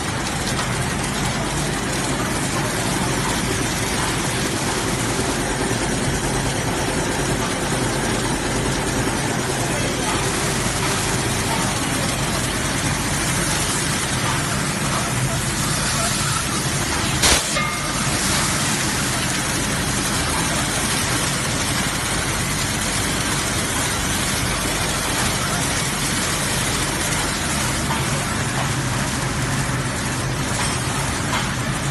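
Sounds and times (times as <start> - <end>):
conveyors clattering and hissing: 0.0 - 31.9
low machine hum: 0.0 - 31.9.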